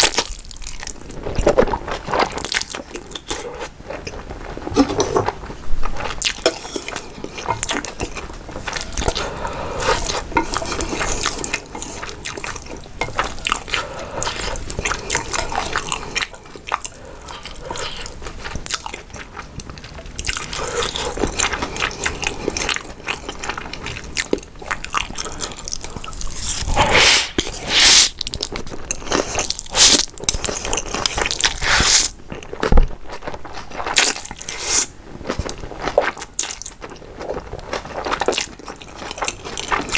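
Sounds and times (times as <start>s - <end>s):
wet chewing and smacking: 0.0s - 26.8s, 28.2s - 39.9s.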